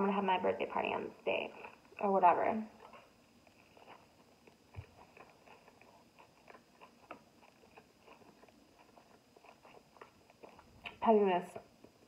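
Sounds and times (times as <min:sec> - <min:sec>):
faint close-up chewing: 0:00.5 - 0:12.0.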